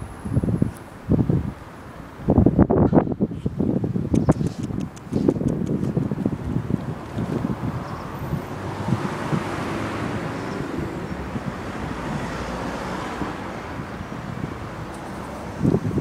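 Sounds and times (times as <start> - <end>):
outdoor background noise: 0.0 - 16.0
wind buffeting microphone: 0.0 - 16.0.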